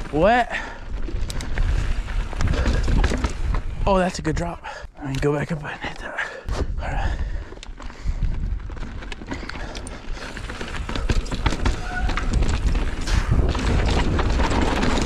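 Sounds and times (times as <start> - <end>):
wind rumbling on microphone: 0.0 - 4.8, 6.5 - 15.0
bike rattling over bumps: 0.0 - 5.8, 6.5 - 15.0
bike tyres on dirt trail: 0.0 - 15.0.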